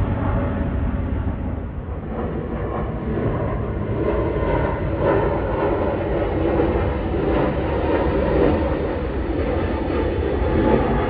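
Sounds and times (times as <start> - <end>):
jet engines rumbling overhead: 0.0 - 11.0.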